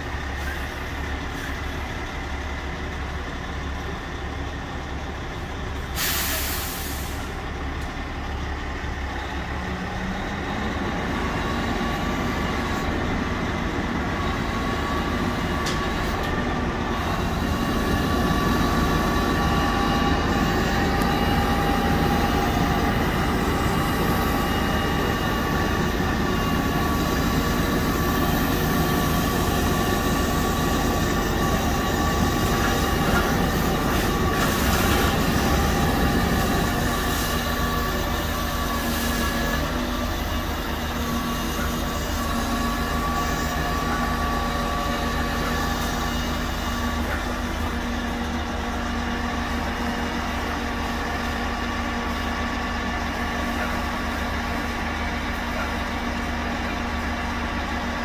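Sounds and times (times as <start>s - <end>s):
truck engine and hydraulic pump: 0.0s - 58.0s.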